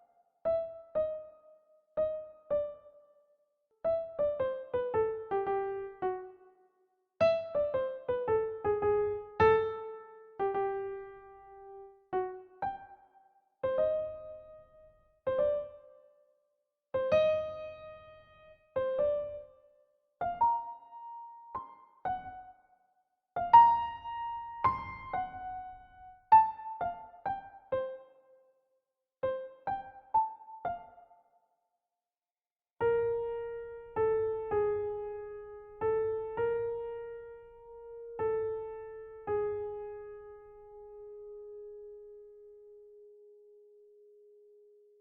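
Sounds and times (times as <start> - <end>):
slow solo piano melody: 0.0 - 3.1, 3.8 - 6.5, 7.2 - 16.1, 16.9 - 22.6, 23.4 - 28.2, 29.2 - 31.0, 32.8 - 45.0.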